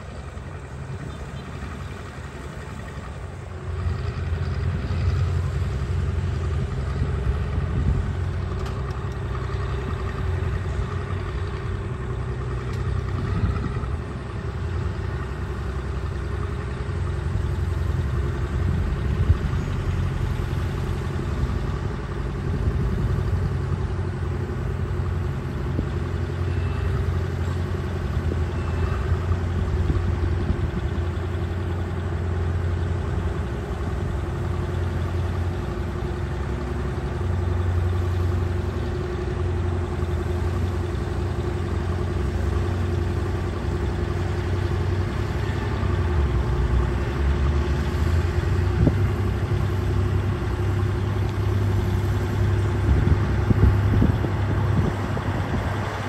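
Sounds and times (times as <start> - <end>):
bulldozer diesel engines droning: 0.0 - 56.0.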